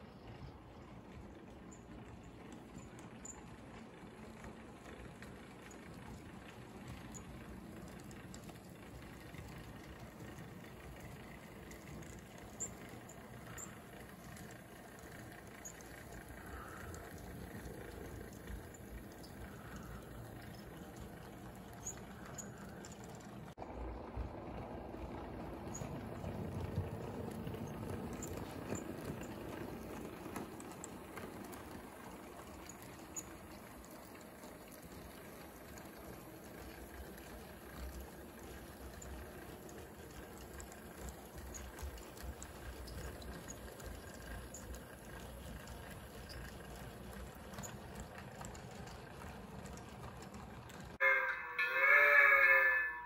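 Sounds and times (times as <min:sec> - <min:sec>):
model train motor and wheels: 0:00.0 - 0:53.0.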